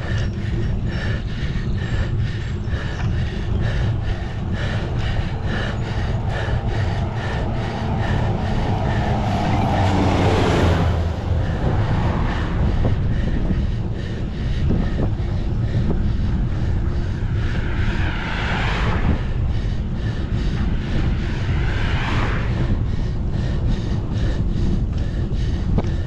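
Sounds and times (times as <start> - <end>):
vehicles passing whoosh: 0.0 - 26.0
wind buffeting microphone: 0.0 - 26.0.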